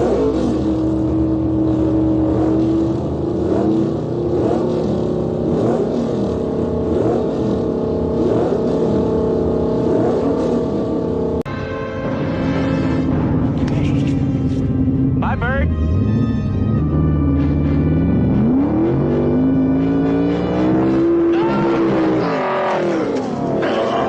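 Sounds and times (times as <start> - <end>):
car engine running loudly: 0.0 - 11.5, 12.1 - 24.0.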